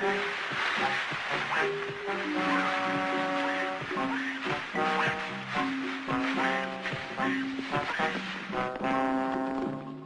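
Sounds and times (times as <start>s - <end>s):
brass instrument playing tune: 0.0s - 10.0s.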